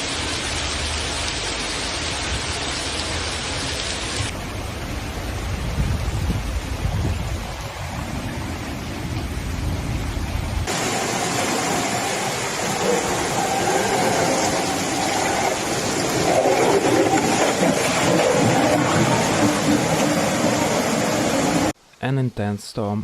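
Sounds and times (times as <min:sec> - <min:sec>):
heavy downpour: 0:00.0 - 0:21.8
rushing floodwater: 0:00.0 - 0:21.8.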